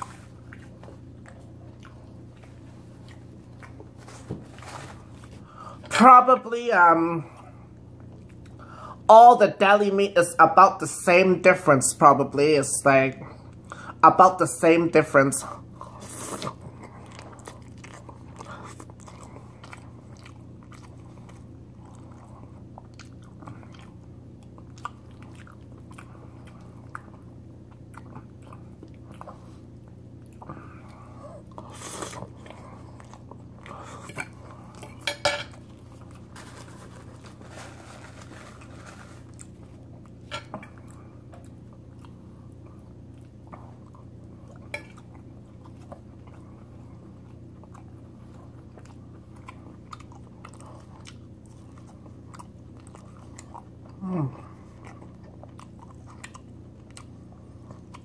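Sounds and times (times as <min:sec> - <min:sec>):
person chewing: 0:00.0 - 0:05.9, 0:07.7 - 0:08.7, 0:15.7 - 0:58.0
steady low hum: 0:00.0 - 0:58.0.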